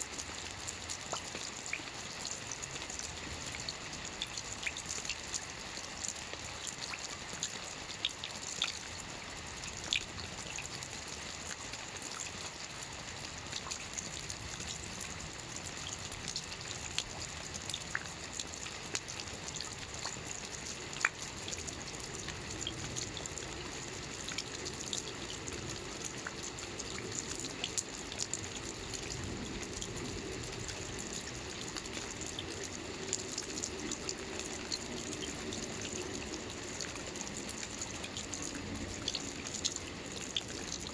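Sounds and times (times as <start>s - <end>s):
soft rain on a roof: 0.0s - 40.9s.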